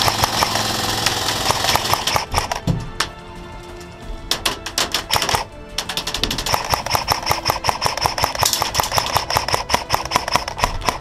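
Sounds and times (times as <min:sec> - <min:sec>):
airsoft gunfire clicking: 0:00.0 - 0:02.8, 0:04.3 - 0:11.0.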